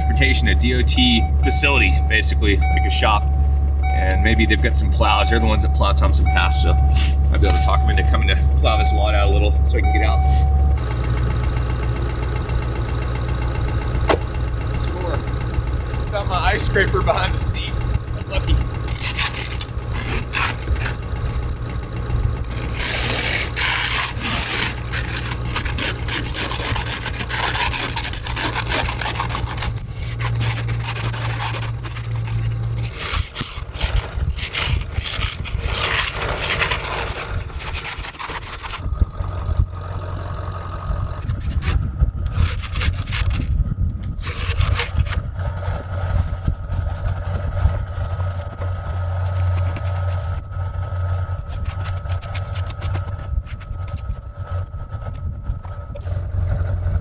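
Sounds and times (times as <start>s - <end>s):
ice scraper scraping windshield: 0.0s - 38.9s, 41.2s - 54.6s
diesel engine idling: 0.0s - 57.0s.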